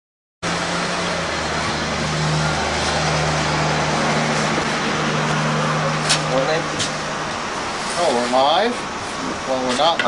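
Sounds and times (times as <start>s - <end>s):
steady mechanical hum: 0.4s - 10.0s.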